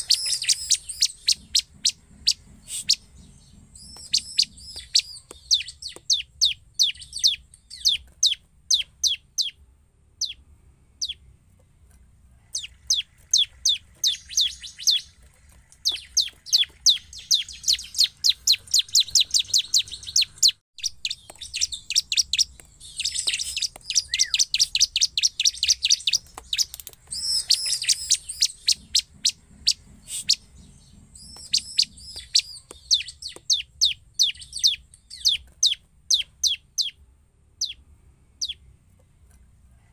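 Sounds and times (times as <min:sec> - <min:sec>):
bird trilling high chirps: 0:00.0 - 0:09.6, 0:10.2 - 0:11.3, 0:12.5 - 0:37.0, 0:37.6 - 0:38.7.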